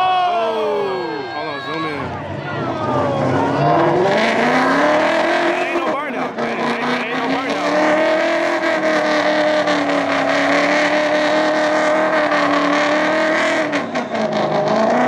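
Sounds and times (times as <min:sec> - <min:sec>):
car engine revving high: 0:01.8 - 0:15.0.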